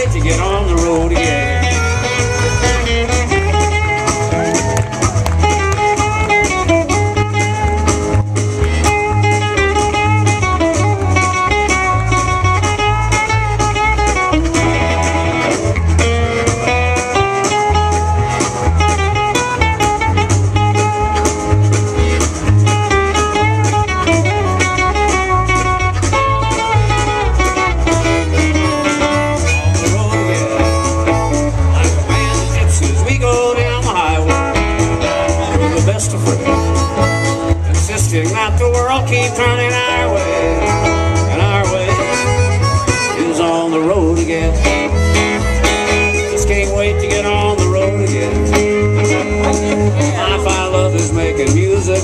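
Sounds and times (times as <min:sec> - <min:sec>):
live band instrumental music: 0:00.0 - 0:52.0.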